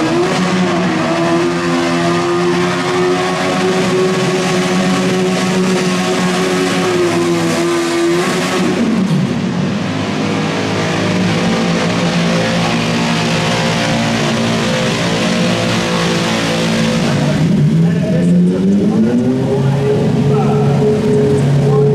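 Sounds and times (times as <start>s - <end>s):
tractor engine revving high: 0.0s - 21.9s.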